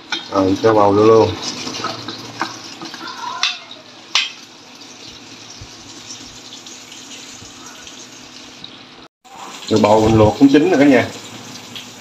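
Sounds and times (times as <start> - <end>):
boiling water hissing: 0.0 - 12.0.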